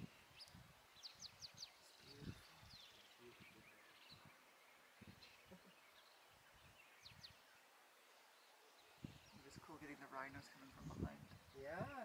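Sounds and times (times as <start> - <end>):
faint bird chirps: 0.0 - 11.9.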